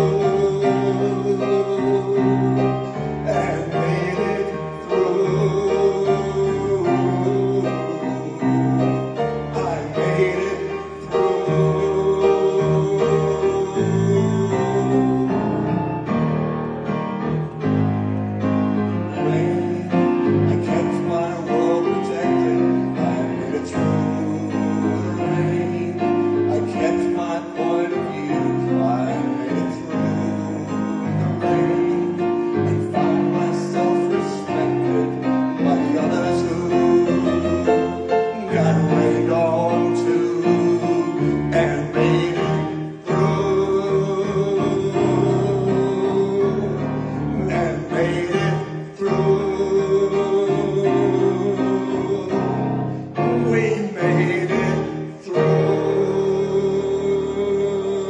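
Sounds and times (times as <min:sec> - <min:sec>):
choir singing: 0:00.0 - 0:58.0
piano accompaniment: 0:00.0 - 0:58.0.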